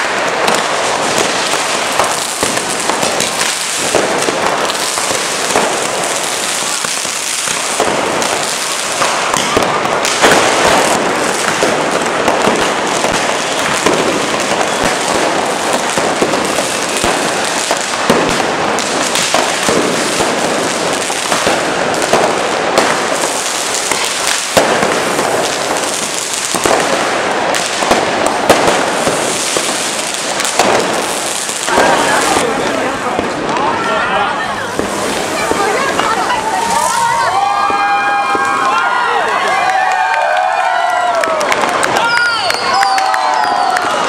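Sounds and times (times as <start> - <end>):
sharp firework bangs: 0.0 - 33.9, 34.6 - 38.8
firecrackers crackling: 0.0 - 44.0.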